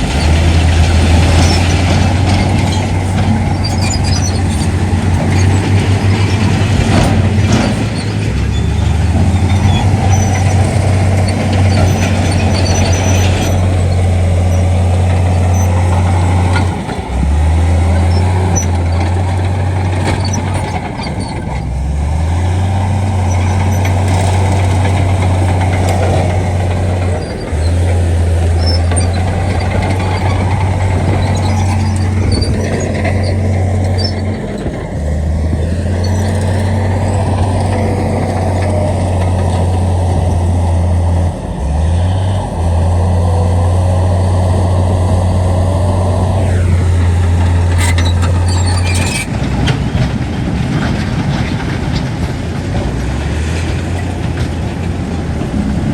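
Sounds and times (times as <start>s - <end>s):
heavy diesel engines droning: 0.0s - 55.9s.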